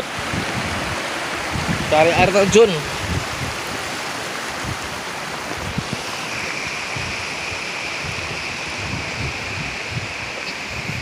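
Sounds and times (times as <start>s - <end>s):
mountain stream rushing: 0.0s - 11.0s
wind buffeting microphone: 0.0s - 11.0s.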